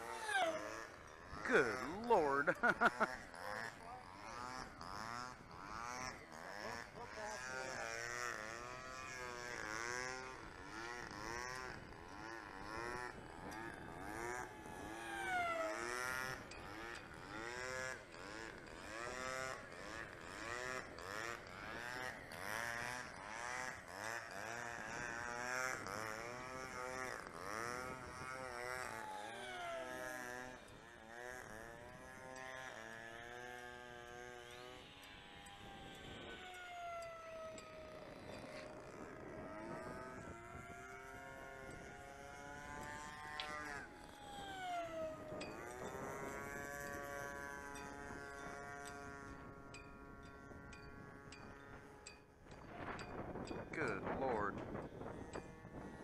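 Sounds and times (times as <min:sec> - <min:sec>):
model plane motor whining: 0:00.0 - 0:56.0.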